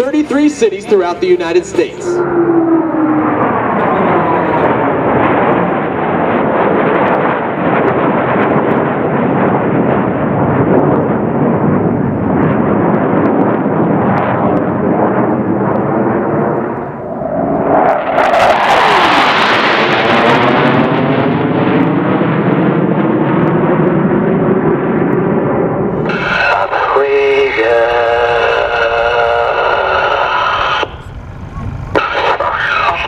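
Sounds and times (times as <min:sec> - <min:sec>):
distant jet engines rumbling: 0:00.0 - 0:33.0
jet passing close: 0:00.0 - 0:33.0.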